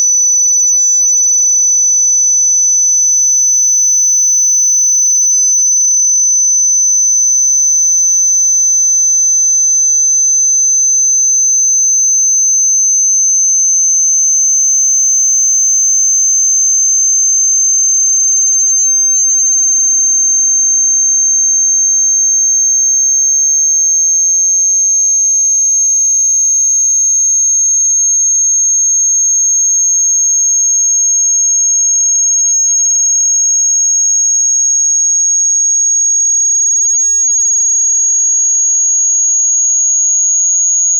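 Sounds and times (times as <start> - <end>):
high-pitched sine tone: 0.0 - 40.9.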